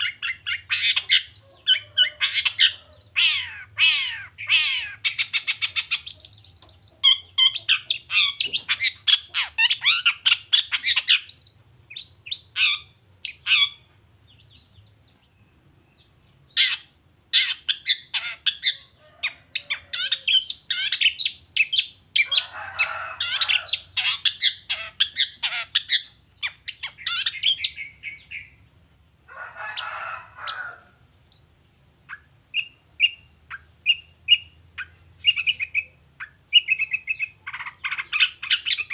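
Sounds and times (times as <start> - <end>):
harsh rasping bird calls: 0.0 - 15.1, 16.3 - 28.6, 29.3 - 38.9
bird singing chirps and trills: 0.0 - 22.5, 23.2 - 28.6, 29.4 - 38.9.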